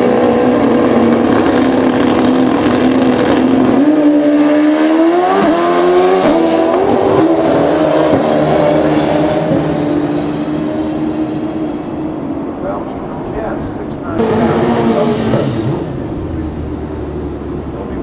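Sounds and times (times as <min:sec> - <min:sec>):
drag motorcycles launching: 0:00.0 - 0:18.0
engine upshifts: 0:00.0 - 0:18.0.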